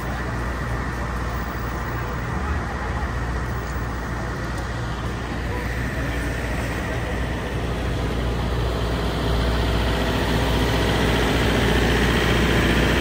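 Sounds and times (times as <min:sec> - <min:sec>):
city street traffic: 0:00.0 - 0:13.0
heavy vehicle engine running: 0:00.0 - 0:13.0.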